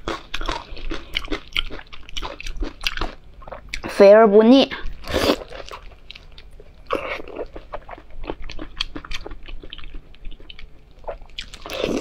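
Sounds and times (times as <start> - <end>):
wet chewing and smacking: 0.0 - 3.9, 4.8 - 12.0.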